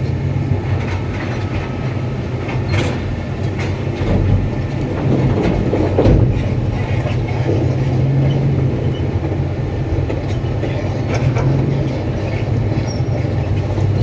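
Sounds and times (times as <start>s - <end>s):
diesel engine humming: 0.0s - 14.0s
metallic clanks from crawler track: 0.0s - 14.0s.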